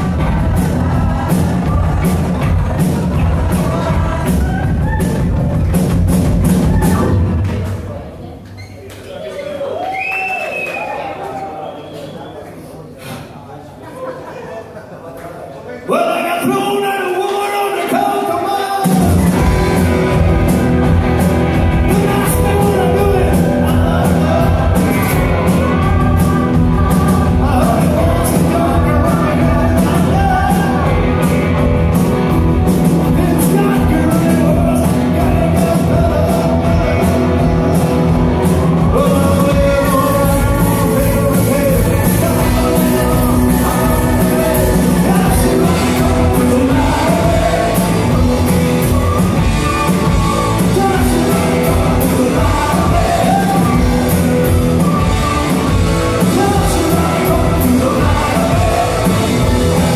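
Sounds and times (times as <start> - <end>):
man singing lead vocals: 0.0 - 5.2, 15.9 - 59.9
live rock band playing: 0.0 - 7.8, 18.8 - 59.9.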